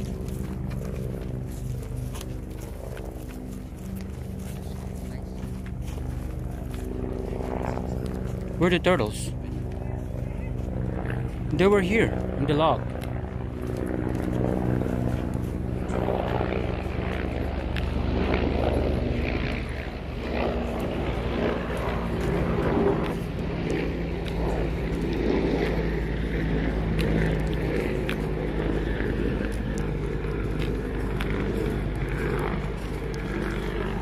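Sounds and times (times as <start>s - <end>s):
faint footsteps on dirt: 0.0s - 34.0s
low engine drone: 0.0s - 34.0s.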